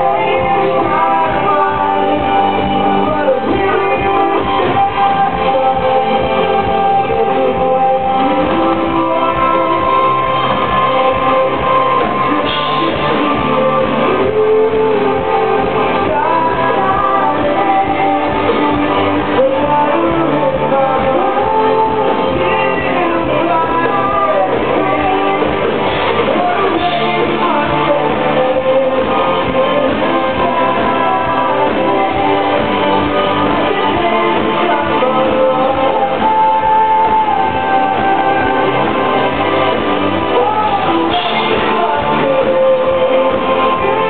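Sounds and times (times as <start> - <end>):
live rock band: 0.0 - 44.0
person singing: 0.0 - 44.0.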